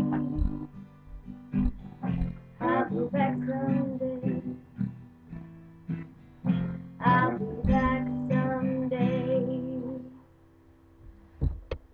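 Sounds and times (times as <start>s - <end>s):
acoustic guitar strumming: 0.0s - 10.6s.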